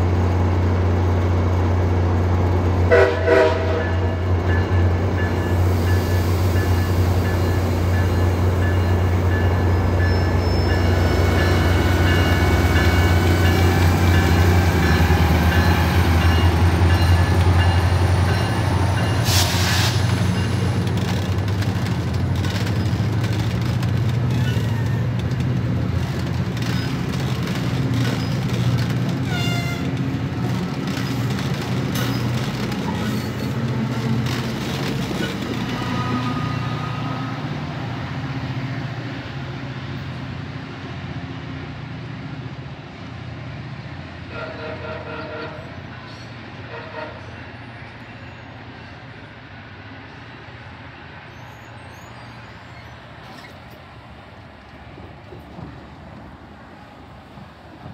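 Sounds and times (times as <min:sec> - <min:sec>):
diesel locomotive humming: 0:00.0 - 0:57.9
high squeals of train: 0:02.2 - 0:41.3, 0:42.5 - 0:57.9.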